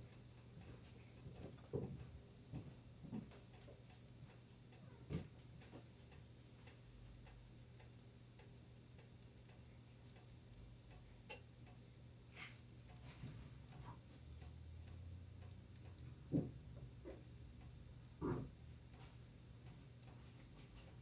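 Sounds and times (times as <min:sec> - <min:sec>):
small clicks and light taps: 0:00.0 - 0:04.4, 0:05.1 - 0:18.3, 0:18.9 - 0:21.0
low hum and hiss: 0:00.0 - 0:21.0.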